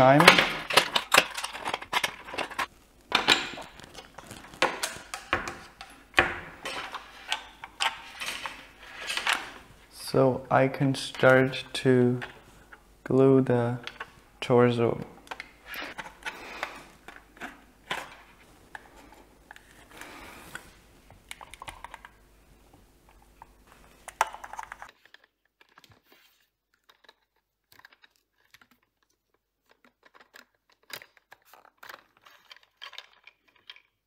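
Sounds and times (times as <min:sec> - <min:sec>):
plastic parts clicking and tapping: 0:00.0 - 0:09.7, 0:13.8 - 0:14.2, 0:15.0 - 0:26.1, 0:26.7 - 0:34.0
room hum: 0:00.0 - 0:33.9.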